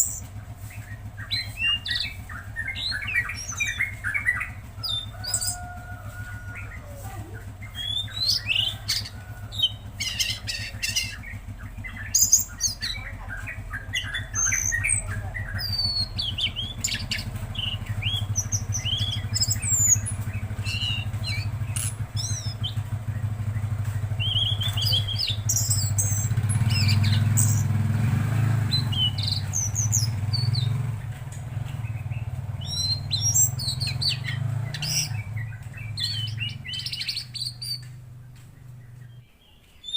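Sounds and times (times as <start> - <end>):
low engine drone: 0.0 - 39.3
songbird singing: 0.0 - 39.9.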